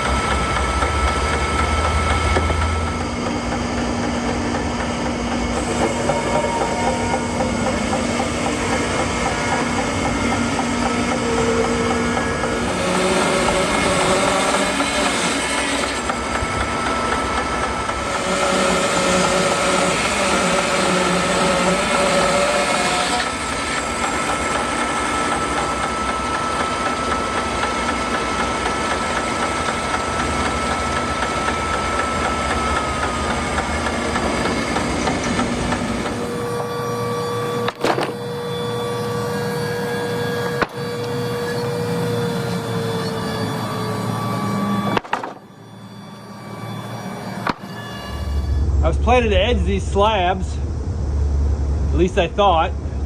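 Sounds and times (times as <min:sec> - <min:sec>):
sawmill cutting a log: 0:00.0 - 0:50.3.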